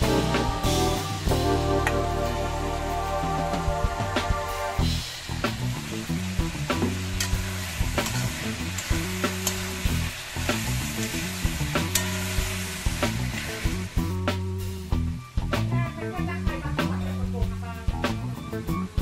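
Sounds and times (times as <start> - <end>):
livers sizzling in a pan: 0.0 - 3.8, 4.5 - 19.0.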